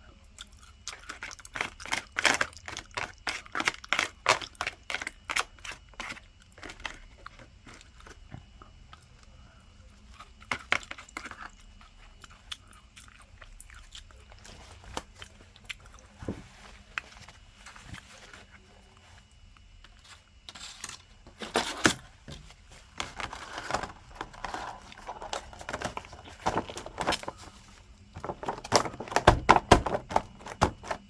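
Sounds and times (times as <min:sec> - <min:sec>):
crunchy chewing of fried food: 0:00.0 - 0:31.0.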